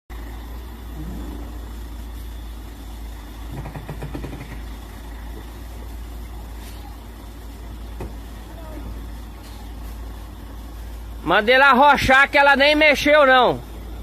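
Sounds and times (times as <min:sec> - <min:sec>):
truck engine rumbling: 0:00.1 - 0:14.0.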